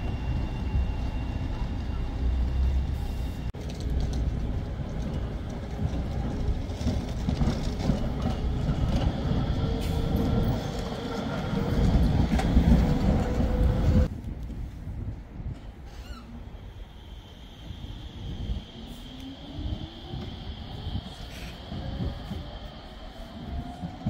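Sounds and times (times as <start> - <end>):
tram drive whine: 0.0 - 24.0
tram wheels rumbling on rails: 0.0 - 24.0.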